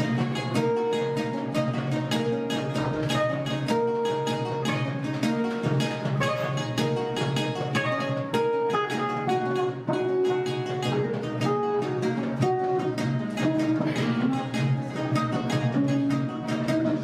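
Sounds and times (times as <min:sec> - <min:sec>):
acoustic guitar: 0:00.0 - 0:17.0
plucked string instrument melody: 0:00.0 - 0:17.0.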